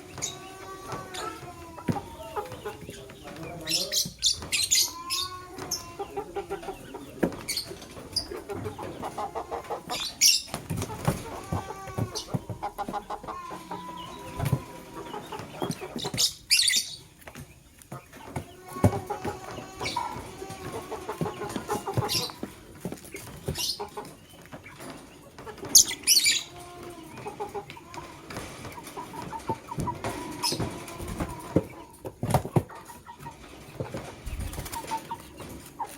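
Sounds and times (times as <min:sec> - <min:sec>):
lovebirds chattering: 0:00.0 - 0:35.9.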